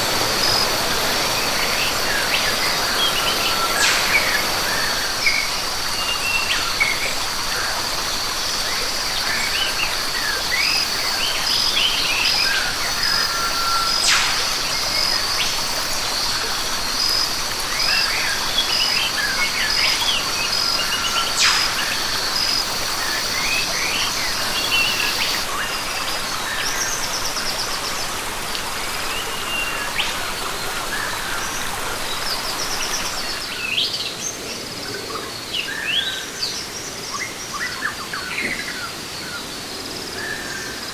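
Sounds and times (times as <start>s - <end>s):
even hiss: 0.0s - 35.0s
insect drone: 0.0s - 40.9s.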